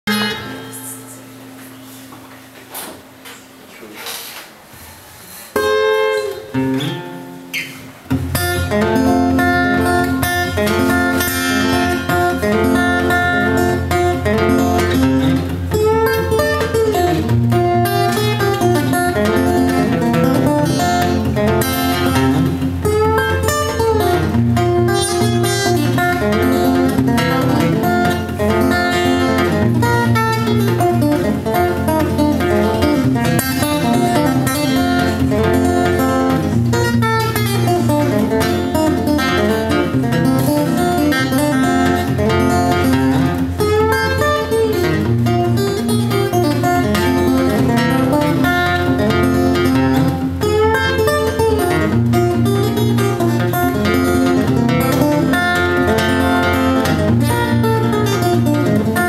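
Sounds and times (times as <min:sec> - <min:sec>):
fingerstyle acoustic guitar: 0:00.1 - 0:59.0.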